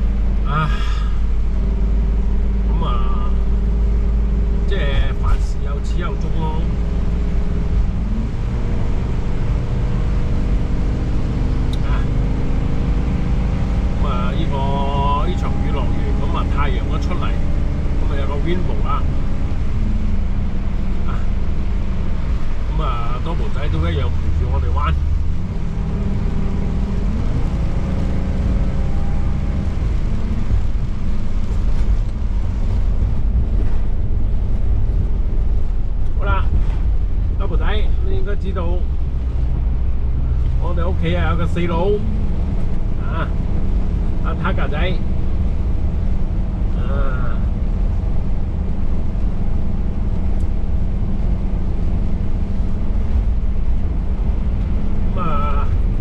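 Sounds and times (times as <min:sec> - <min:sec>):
large engine rumbling: 0:00.0 - 0:56.0.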